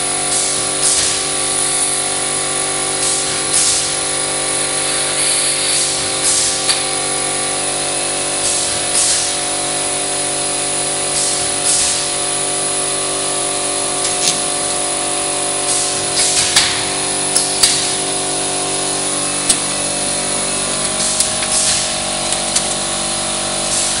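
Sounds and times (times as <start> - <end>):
machine mechanical hum: 0.0 - 24.0.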